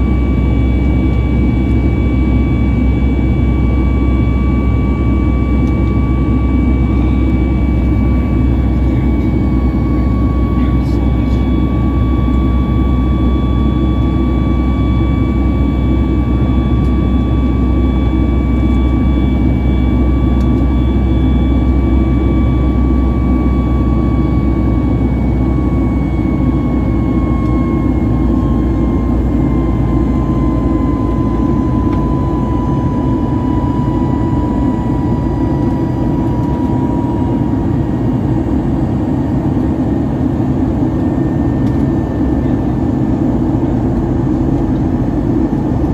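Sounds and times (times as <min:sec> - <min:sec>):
engine whine: 0:00.0 - 0:45.9
jet engine rumble in cabin: 0:00.0 - 0:45.9.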